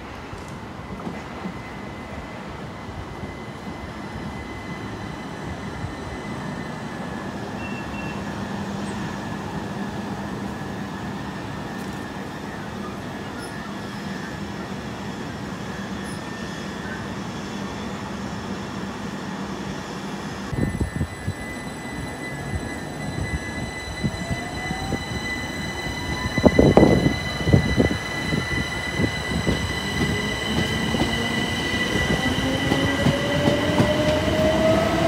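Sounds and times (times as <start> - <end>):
train rumbling on tracks: 0.0 - 35.0.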